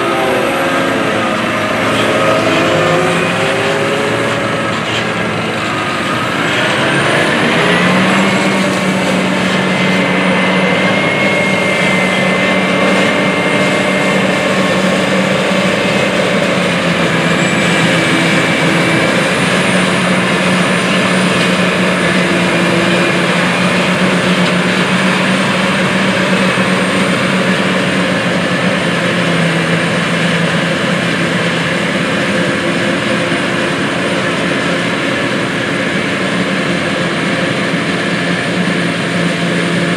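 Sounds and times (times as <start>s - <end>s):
forage harvester engine drone: 0.0s - 39.9s
machine whine: 0.0s - 39.9s.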